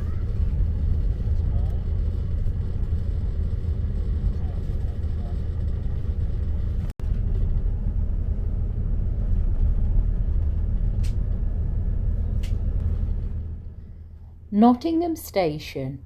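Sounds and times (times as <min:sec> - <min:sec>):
train rumbling: 0:00.0 - 0:15.7.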